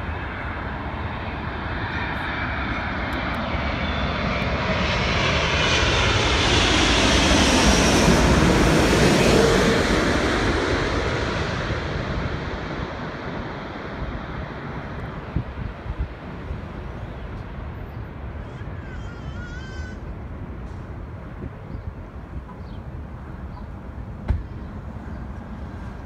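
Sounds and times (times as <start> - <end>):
jet airliner passing overhead: 0.0 - 26.0
jet engine whine: 0.0 - 26.0.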